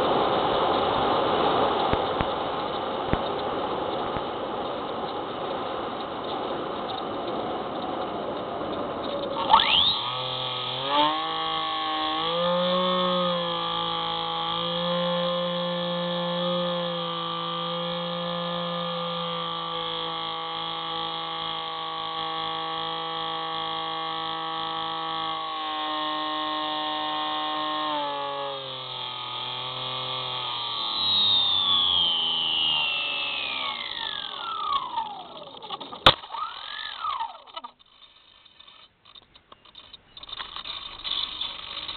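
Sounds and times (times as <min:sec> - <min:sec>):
electric motor and propeller whining: 0:00.0 - 0:41.9.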